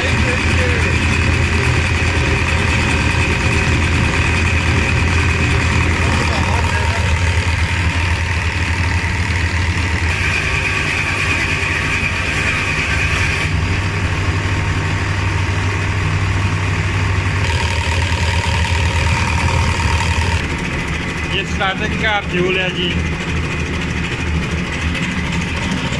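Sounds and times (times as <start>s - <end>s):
diesel engine idling: 0.0s - 25.9s.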